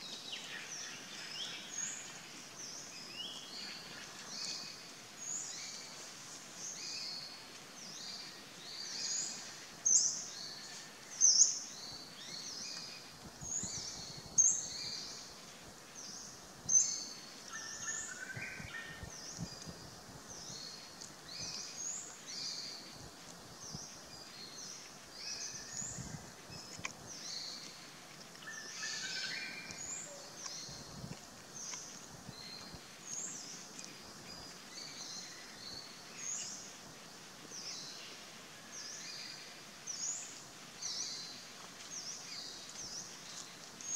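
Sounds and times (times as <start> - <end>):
forest birds chirping: 0.0 - 43.9.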